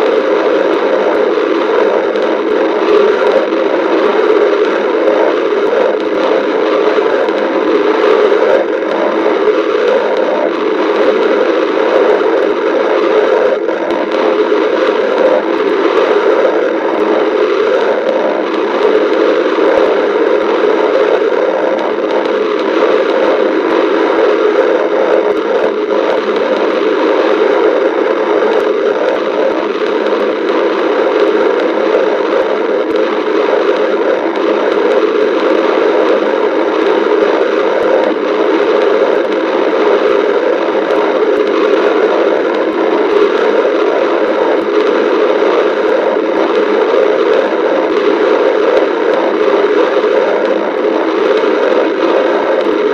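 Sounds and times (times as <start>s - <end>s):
stomach growling and gurgling: 0.0s - 52.9s.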